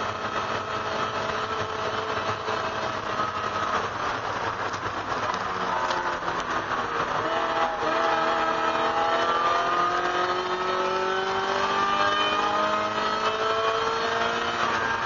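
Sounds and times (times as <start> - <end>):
car engine accelerating: 0.0 - 15.0
road and wind noise: 0.0 - 15.0.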